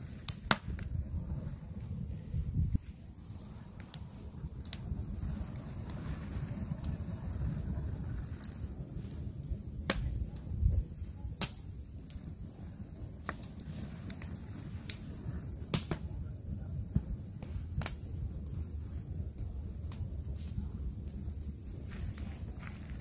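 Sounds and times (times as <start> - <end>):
campfire crackling: 0.0 - 23.0
low steady rumble: 0.0 - 23.0.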